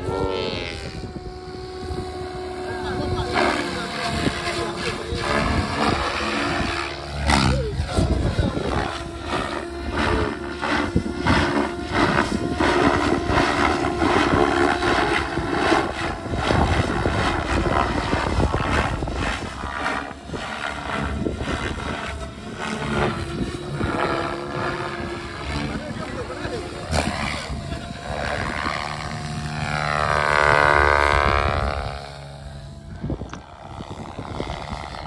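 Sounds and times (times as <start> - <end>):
model helicopter rotor chopping: 0.0 - 35.0.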